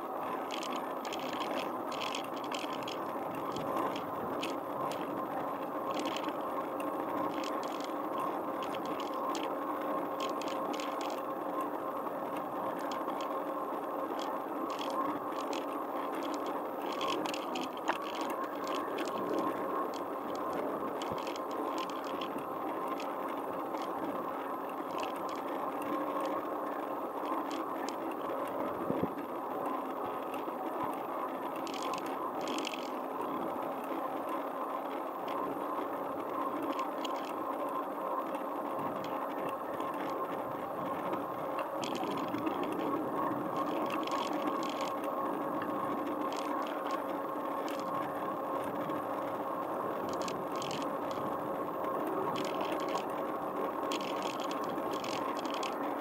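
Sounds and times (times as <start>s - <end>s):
bicycle rattles: 0.0s - 56.0s
bicycle tyres humming on pavement: 0.0s - 56.0s.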